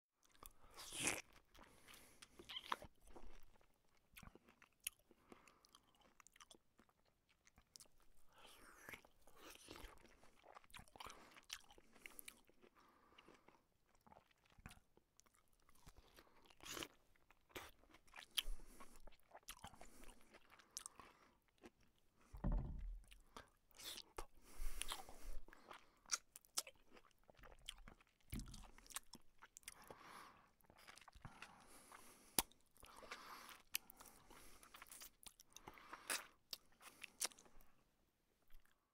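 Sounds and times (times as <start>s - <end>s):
person chewing and slurping: 4.2s - 21.8s, 22.7s - 37.6s.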